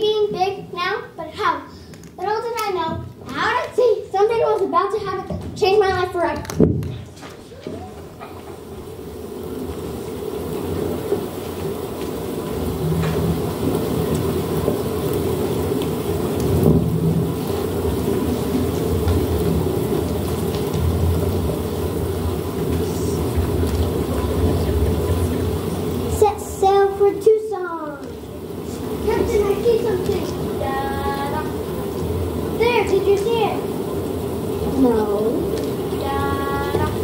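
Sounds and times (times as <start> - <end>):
rain hiss: 0.0 - 37.0
low rumbling thunder: 6.0 - 7.1, 7.8 - 37.0.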